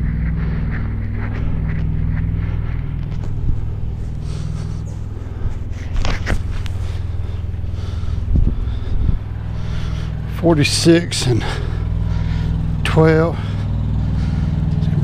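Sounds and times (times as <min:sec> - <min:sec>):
moving pads rustling: 0:00.0 - 0:15.0
vehicle engine idling: 0:00.0 - 0:15.0.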